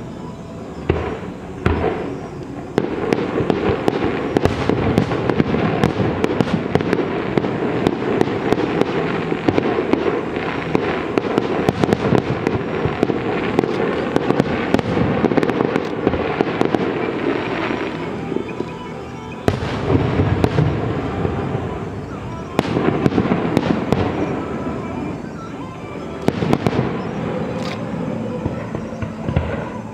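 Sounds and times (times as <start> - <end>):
fireworks bursts and crackle: 0.0 - 29.9.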